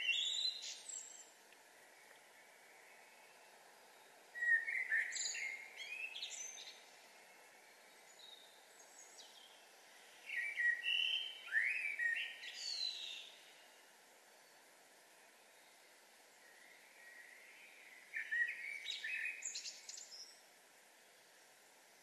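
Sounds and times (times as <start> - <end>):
faint background hiss: 0.0 - 22.0
songbird singing: 0.0 - 22.0.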